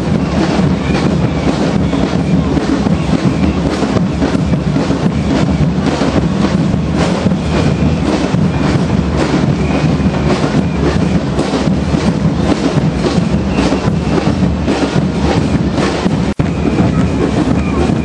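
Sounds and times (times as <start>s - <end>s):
drum band playing fast rhythm: 0.0s - 18.0s.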